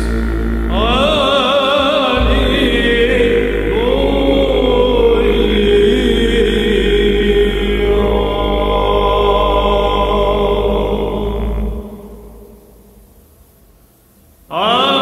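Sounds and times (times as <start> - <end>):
cantor singing ornamented melody: 0.0 - 13.1
low sung drone: 0.0 - 15.0.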